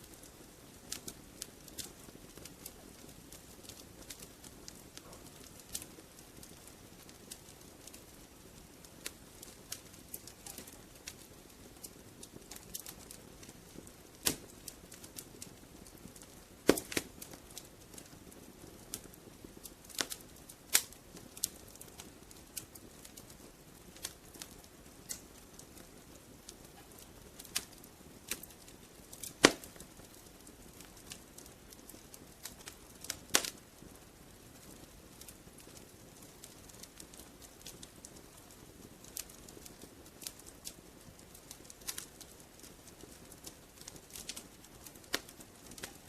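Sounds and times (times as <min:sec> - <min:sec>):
faint hiss of burning: 0:00.0 - 0:46.0
wood fire crackling: 0:00.0 - 0:46.0.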